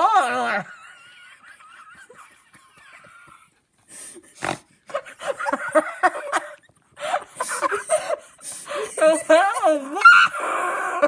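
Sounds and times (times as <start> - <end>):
person laughing and wheezing: 0.5 - 11.0.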